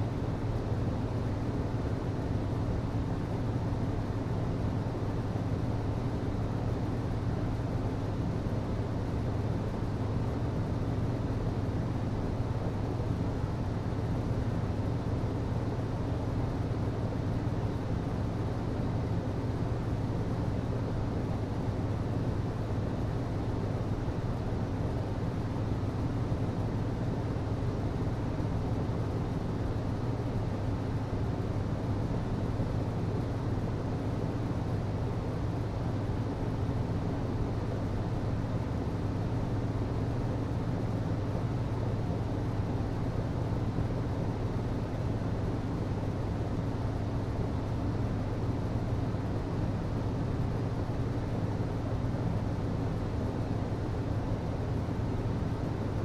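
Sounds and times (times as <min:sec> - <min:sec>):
hvac low hum: 0:00.0 - 0:56.0.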